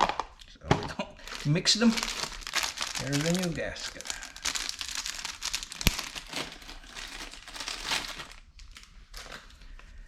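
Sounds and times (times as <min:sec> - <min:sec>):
plastic packaging crinkling: 0:01.2 - 0:09.8.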